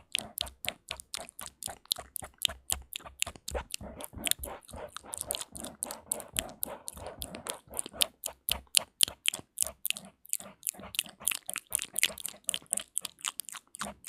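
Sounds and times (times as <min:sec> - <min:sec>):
wet tongue and lip clicks: 0:00.0 - 0:14.0.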